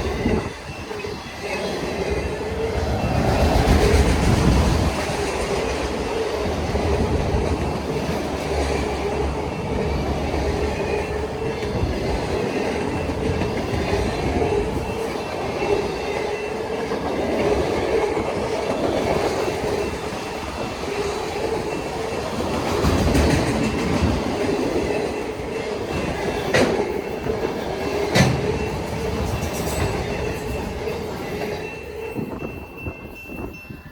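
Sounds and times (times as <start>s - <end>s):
wheels clicking over rail joints: 0.0s - 32.3s.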